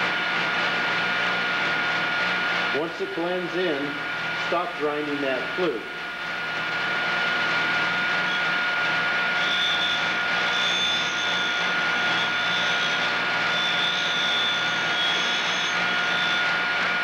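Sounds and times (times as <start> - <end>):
grinder whining: 0.0 - 17.0.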